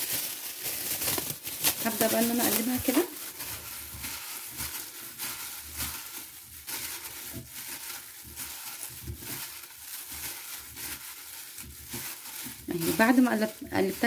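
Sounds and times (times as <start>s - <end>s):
plastic glove crinkling: 0.0s - 14.0s.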